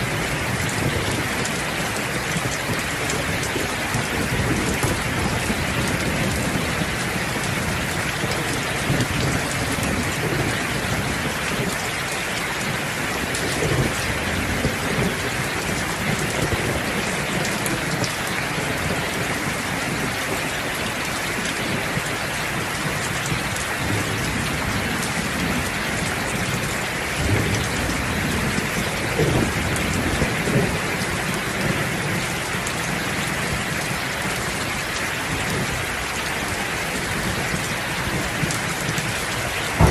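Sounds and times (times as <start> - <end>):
low thunder rumbling: 0.0 - 20.5, 21.6 - 34.6, 35.3 - 39.9
steady rain downpour: 0.0 - 39.9.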